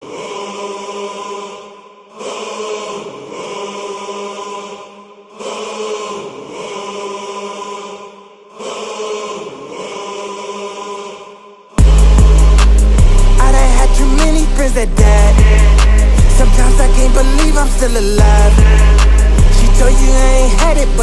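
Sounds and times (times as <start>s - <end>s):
choir-like chanted vocal loop: 0.0s - 21.0s.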